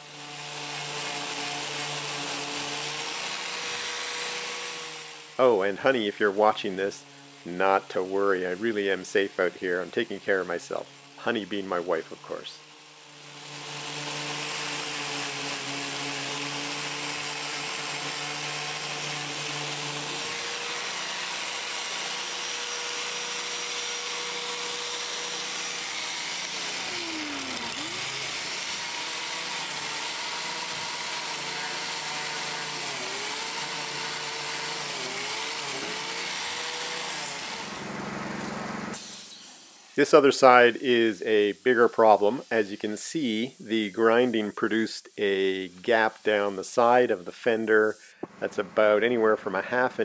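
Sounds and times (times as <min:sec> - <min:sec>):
angle grinder grinding metal: 0:00.0 - 0:50.0.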